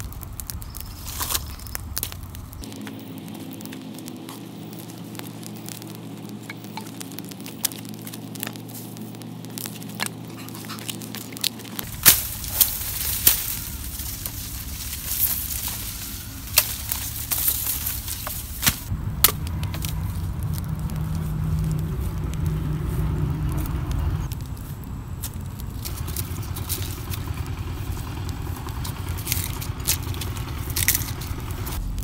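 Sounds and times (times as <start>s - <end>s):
campfire crackling: 0.0s - 32.0s
dry reed stems snapping: 0.0s - 32.0s
low steady hum: 0.0s - 32.0s.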